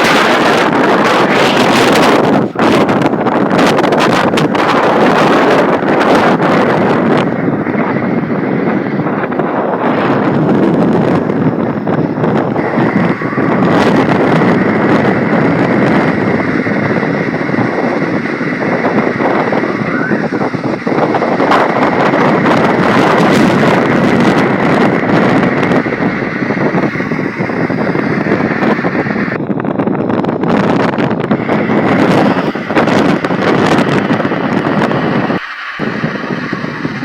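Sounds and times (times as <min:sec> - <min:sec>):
strong wind buffeting microphone: 0:00.0 - 0:37.0.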